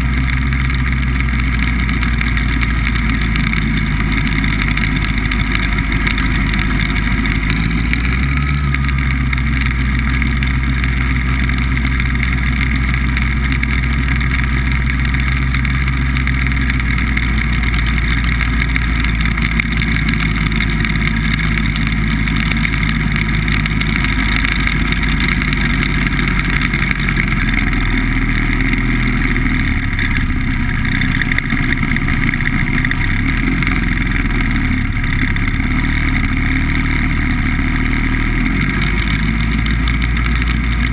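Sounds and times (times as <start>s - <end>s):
hovercraft engine and fan running: 0.0s - 40.9s.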